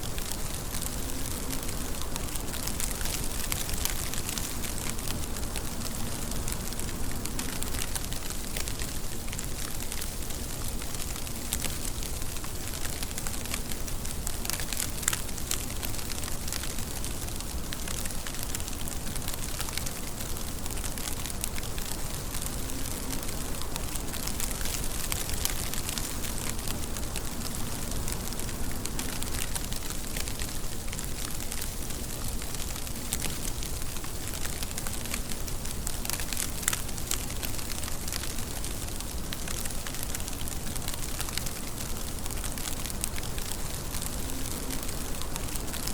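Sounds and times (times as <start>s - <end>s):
sharp raindrop ticks: 0.0s - 45.9s
steady rain patter: 0.0s - 45.9s.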